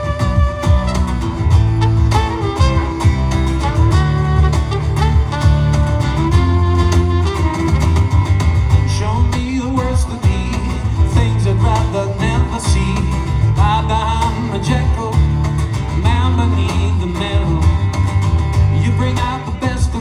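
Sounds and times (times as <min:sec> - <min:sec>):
country-folk band music: 0:00.0 - 0:20.0.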